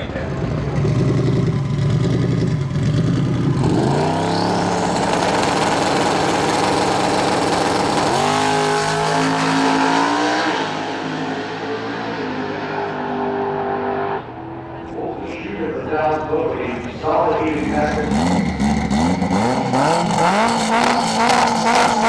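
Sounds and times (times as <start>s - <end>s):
drag racing cars accelerating: 0.0s - 22.0s.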